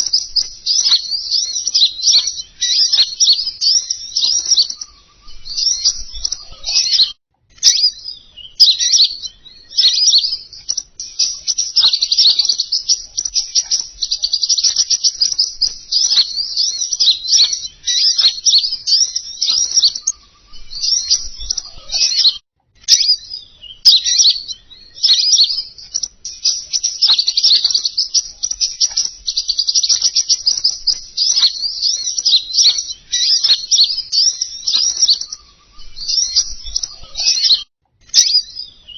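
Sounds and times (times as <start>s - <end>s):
high bird twittering chatter: 0.0s - 38.9s.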